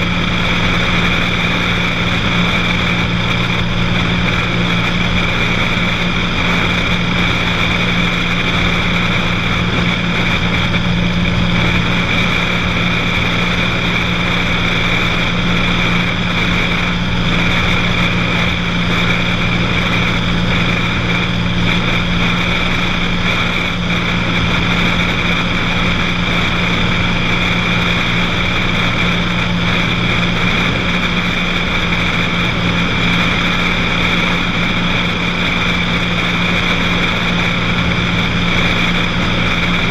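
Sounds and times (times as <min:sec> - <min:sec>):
broad rushing noise: 0:00.0 - 0:39.9
propeller plane engine droning: 0:00.0 - 0:39.9.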